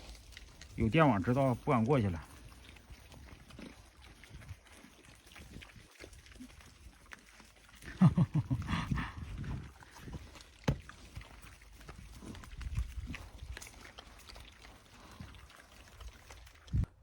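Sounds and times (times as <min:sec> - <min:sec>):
pigs grunting: 0:00.6 - 0:16.7.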